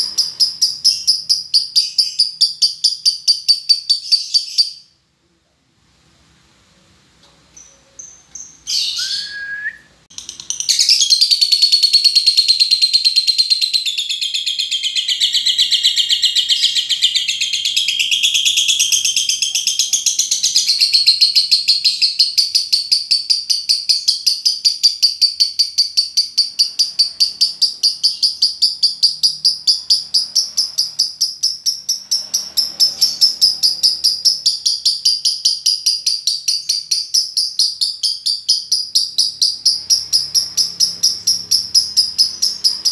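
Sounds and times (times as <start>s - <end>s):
bird chirping and trilling: 0.0s - 5.0s, 7.5s - 42.9s.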